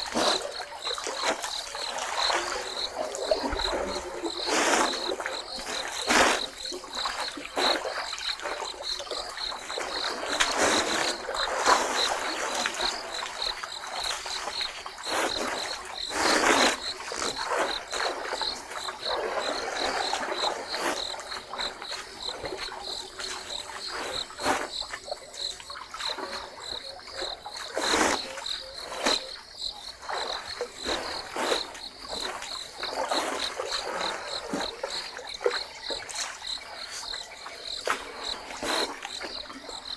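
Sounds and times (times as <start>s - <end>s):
elephants splashing water: 0.0s - 39.9s.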